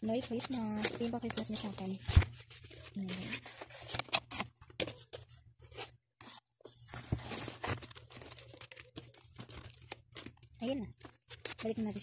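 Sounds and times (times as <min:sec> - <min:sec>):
cardboard and plastic rustling: 0:00.1 - 0:12.0.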